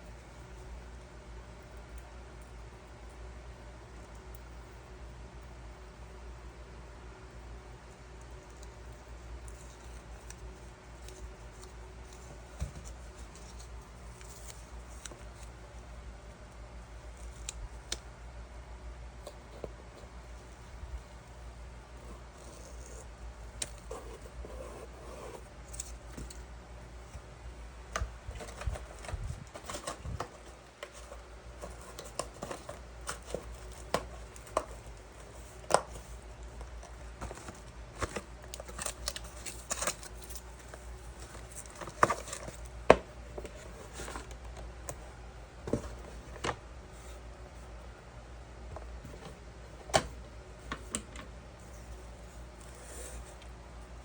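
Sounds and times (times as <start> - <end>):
steady low hum: 0.0 - 54.0
hands handling materials: 8.2 - 54.0.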